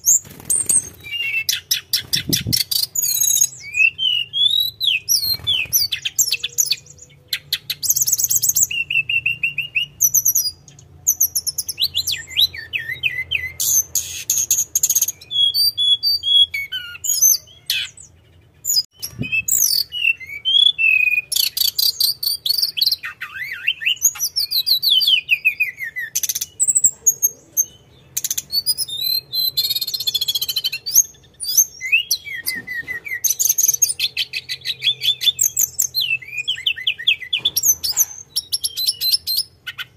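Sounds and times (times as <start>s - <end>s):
flycatcher singing trills: 0.0s - 39.9s.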